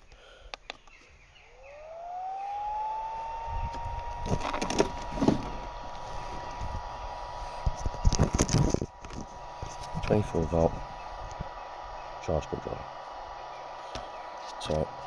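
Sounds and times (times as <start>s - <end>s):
small electric motor whining: 1.4s - 15.0s
rising hiss: 1.5s - 15.0s.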